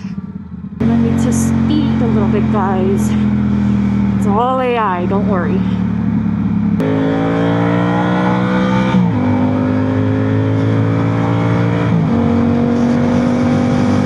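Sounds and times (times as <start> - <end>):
motorcycle engine accelerating hard: 0.0 - 14.0.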